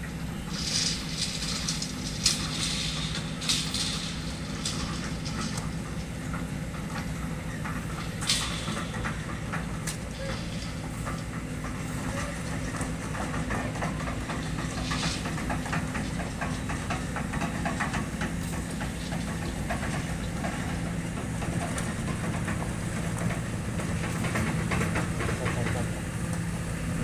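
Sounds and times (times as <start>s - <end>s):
excavator diesel engine running: 0.0s - 27.0s
metallic ticks and rattles: 0.4s - 26.4s.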